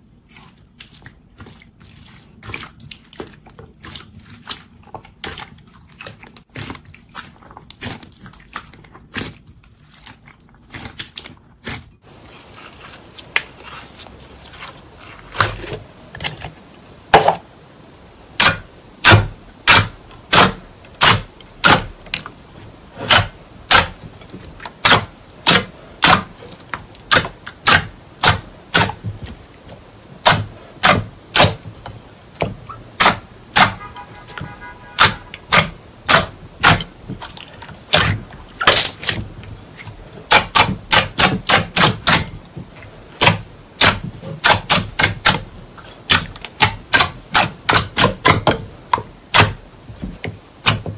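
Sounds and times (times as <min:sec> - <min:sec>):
slime squishing and popping: 0:00.2 - 0:12.0, 0:18.4 - 0:22.4, 0:23.0 - 0:49.6.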